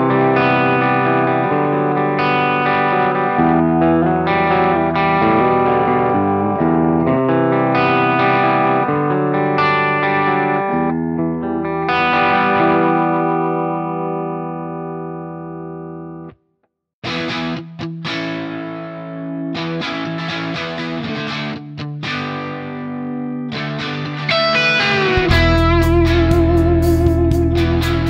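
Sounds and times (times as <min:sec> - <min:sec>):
electric guitar chords and notes: 0:00.0 - 0:16.4, 0:17.0 - 0:28.0.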